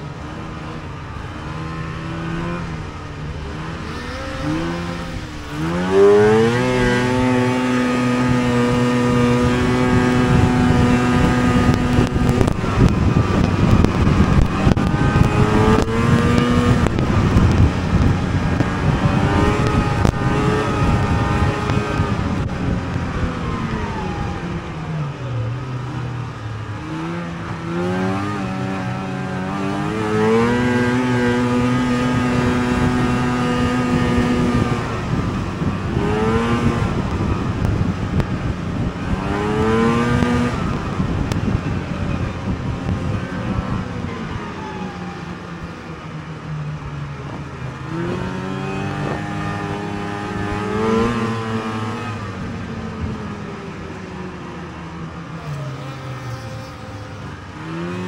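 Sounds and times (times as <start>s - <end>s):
snowmobile engine revving: 0.0s - 46.0s, 47.3s - 54.4s, 55.0s - 58.0s
rushing noise: 0.0s - 53.9s.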